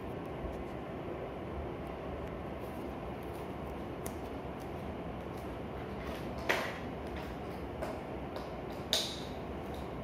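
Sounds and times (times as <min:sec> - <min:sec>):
room hiss: 0:00.0 - 0:10.0.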